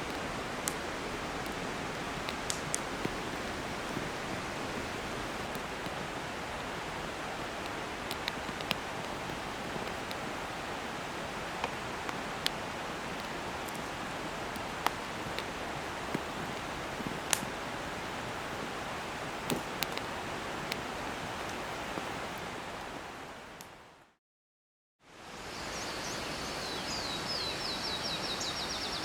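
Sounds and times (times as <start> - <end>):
campfire crackling pops: 0.0 - 23.8
mountain stream rushing: 0.0 - 23.9.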